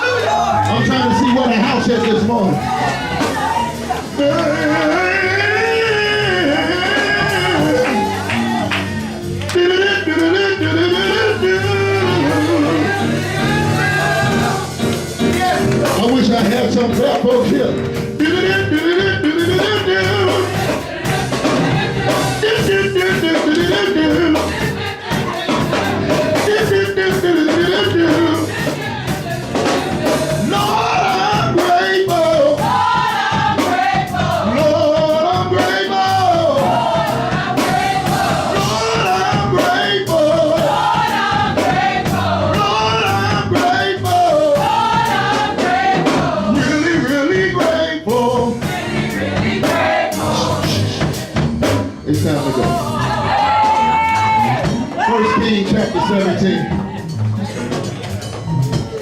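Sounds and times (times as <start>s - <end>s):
band playing steady beat: 0.0s - 59.0s
gospel singing: 0.0s - 59.0s.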